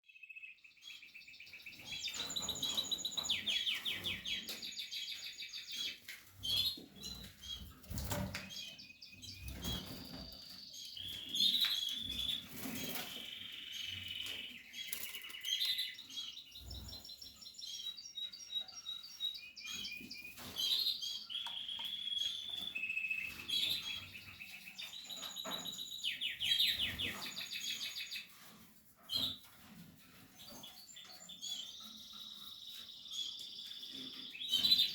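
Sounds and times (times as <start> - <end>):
canaries singing and chirping: 0.8 - 34.9.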